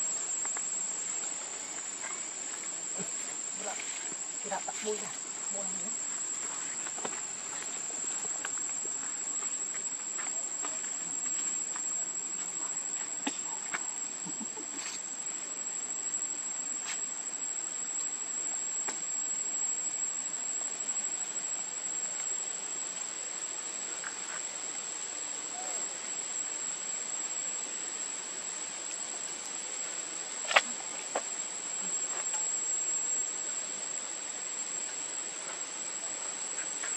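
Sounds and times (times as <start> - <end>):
high-pitched insect drone: 0.0 - 36.9.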